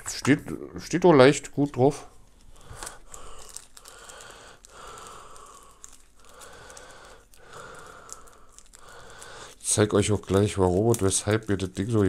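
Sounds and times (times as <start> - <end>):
plastic bag crinkling: 1.6 - 12.0.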